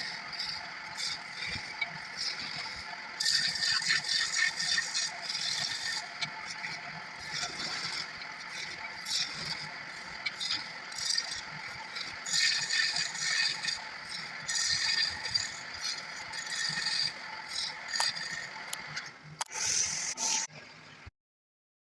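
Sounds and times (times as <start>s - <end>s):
tool scraping spinning wood: 0.0s - 20.5s
wood lathe running: 0.0s - 20.5s.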